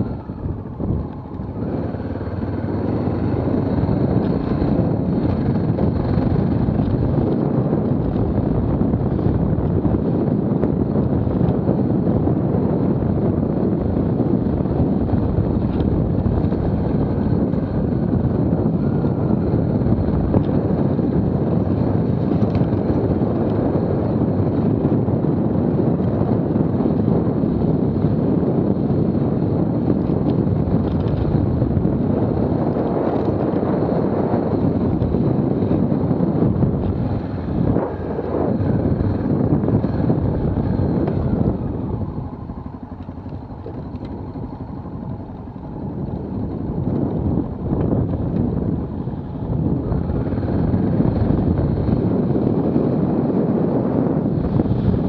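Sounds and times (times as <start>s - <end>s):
dirt bike engine running: 0.0s - 55.0s
wind rush on microphone: 0.0s - 55.0s.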